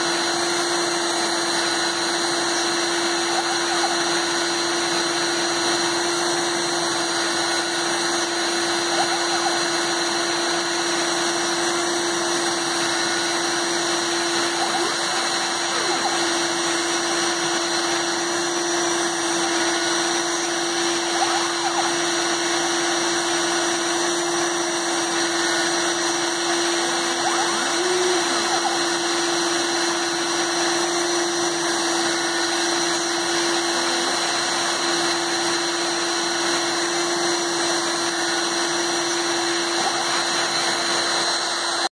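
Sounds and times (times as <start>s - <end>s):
rotary tool spindle whine: 0.0s - 41.9s.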